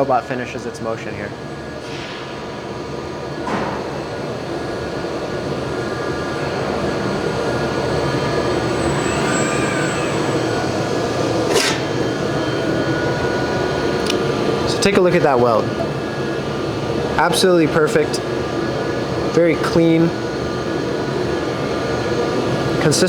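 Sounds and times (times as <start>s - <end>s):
machine whir and hum: 0.0s - 23.0s.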